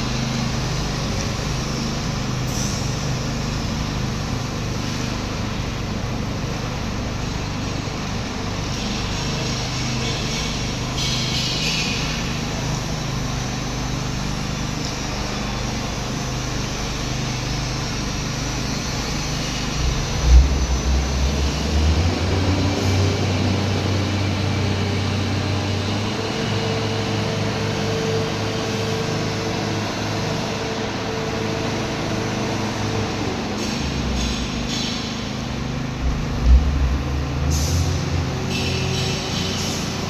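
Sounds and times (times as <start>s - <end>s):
power trowel engine running: 0.0s - 40.0s.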